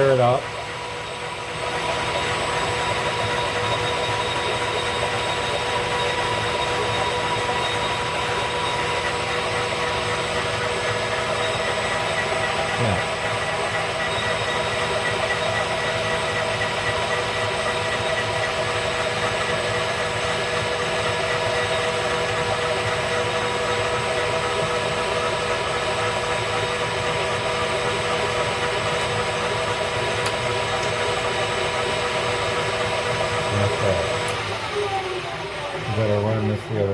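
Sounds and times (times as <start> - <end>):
metal lathe humming and whining: 0.0 - 36.9.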